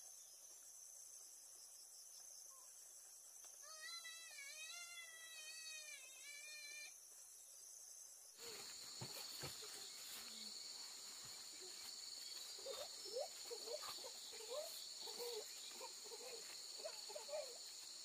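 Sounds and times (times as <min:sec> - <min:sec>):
insects chirring: 0:00.1 - 0:18.0.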